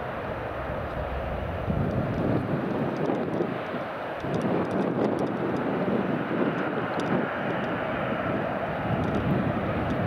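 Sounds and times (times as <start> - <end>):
jet engines at takeoff: 0.0 - 10.0.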